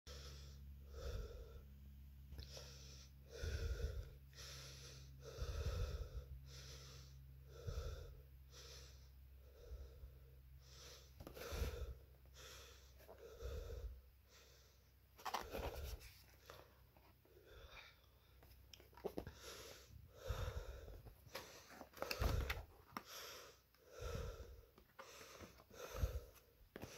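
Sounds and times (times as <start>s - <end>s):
person breathing close: 0.1s - 26.9s
steady low hum: 0.1s - 26.9s.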